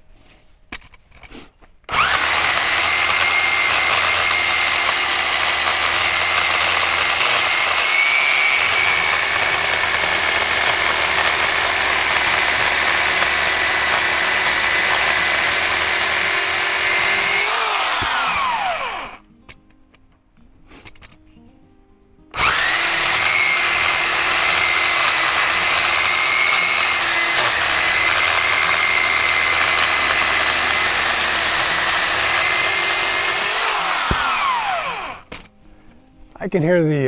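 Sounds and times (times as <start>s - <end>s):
electric chainsaw whining: 1.9s - 19.2s, 22.4s - 35.3s.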